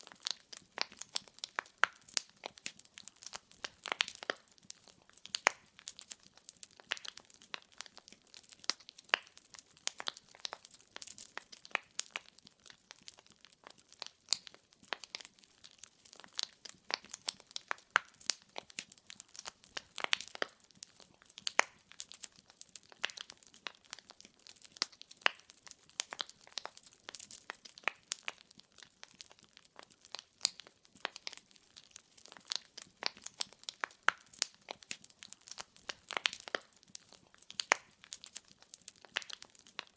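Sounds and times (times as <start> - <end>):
fireplace logs crackling and popping: 0.0 - 39.9.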